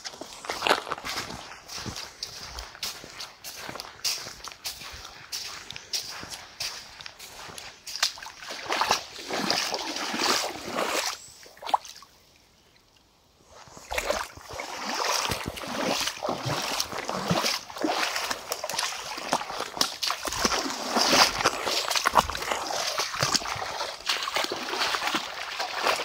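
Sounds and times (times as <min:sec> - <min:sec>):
footsteps splashing through creek: 0:00.0 - 0:12.2, 0:13.4 - 0:26.0.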